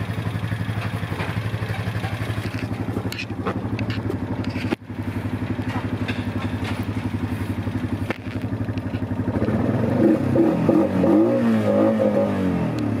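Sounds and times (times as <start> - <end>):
quad bike engine idling and revving: 0.0 - 13.0.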